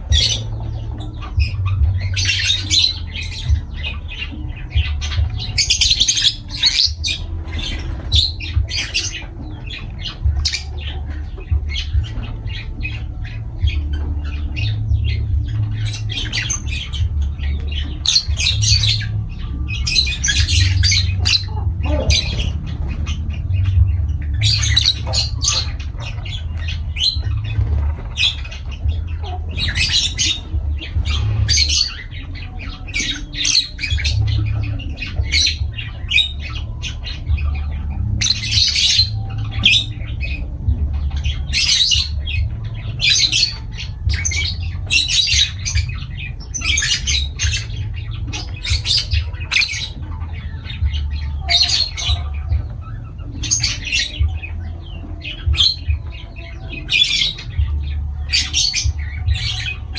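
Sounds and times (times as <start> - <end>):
lovebirds squawking and chirping: 0.0 - 59.9
steady low hum: 0.0 - 59.9.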